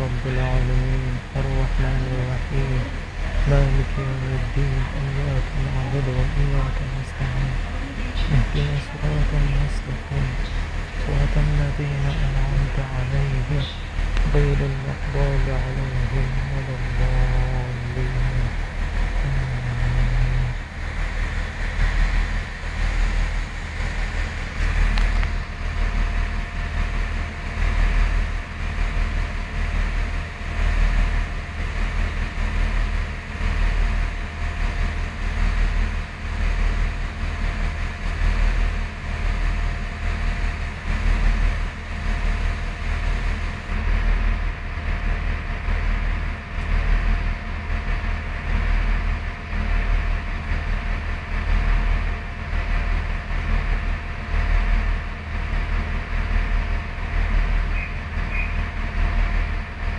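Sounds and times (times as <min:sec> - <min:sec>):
faint steady hum: 0:00.0 - 0:59.9
train rumbling: 0:00.0 - 0:59.9.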